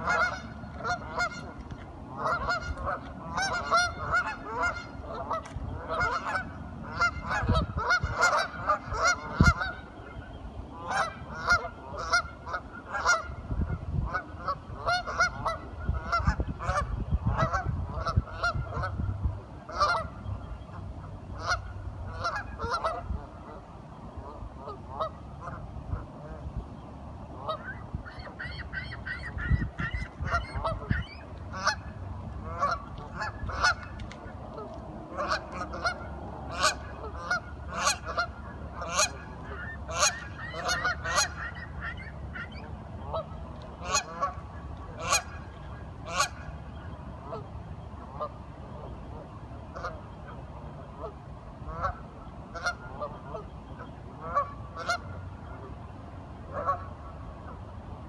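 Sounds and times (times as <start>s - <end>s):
ducks quacking: 0.0s - 19.0s, 19.7s - 20.2s, 21.0s - 23.3s, 27.3s - 47.5s, 51.7s - 55.8s, 56.5s - 57.2s.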